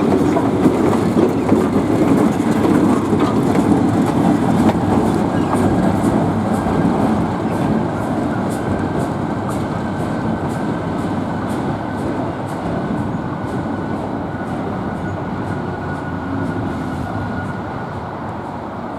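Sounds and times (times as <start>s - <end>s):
train rumbling on rails: 0.0s - 18.9s.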